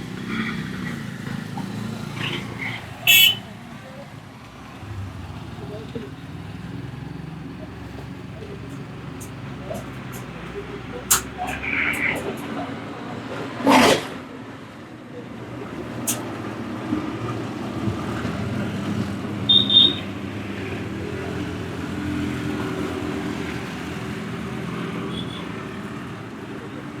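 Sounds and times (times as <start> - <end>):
road traffic engines: 0.0 - 27.0.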